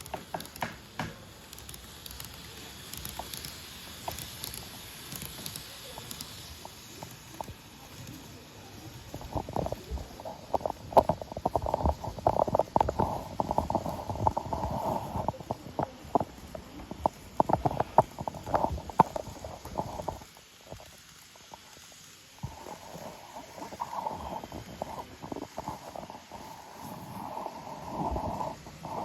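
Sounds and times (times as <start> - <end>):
motor rattling and clicking: 0.0 - 29.0
train motor humming: 0.0 - 29.0.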